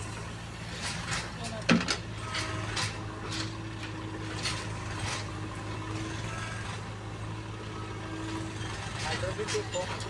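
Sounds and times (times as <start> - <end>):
backhoe scraping soil: 0.0 - 10.0
diesel engine running: 0.0 - 10.0.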